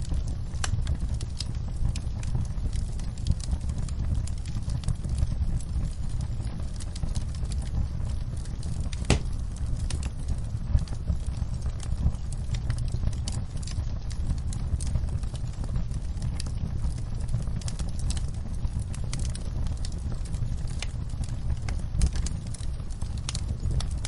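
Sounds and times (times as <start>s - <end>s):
fire popping: 0.0s - 24.0s
fireplace fire crackling: 0.0s - 24.0s.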